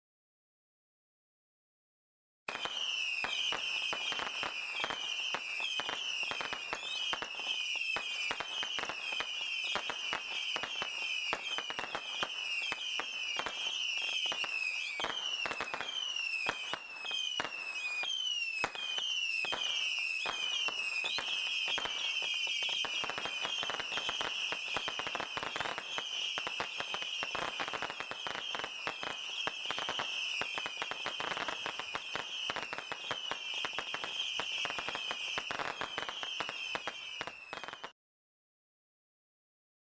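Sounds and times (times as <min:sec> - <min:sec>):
firework pops and cracks: 0:02.5 - 0:38.0
firework whistles dropping in pitch: 0:02.5 - 0:38.0.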